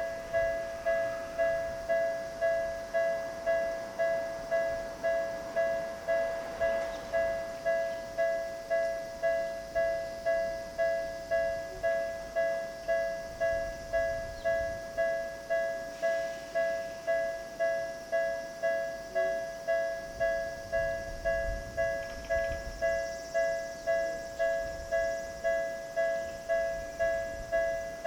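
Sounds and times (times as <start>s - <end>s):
level-crossing warning bell ringing: 0.0s - 28.0s.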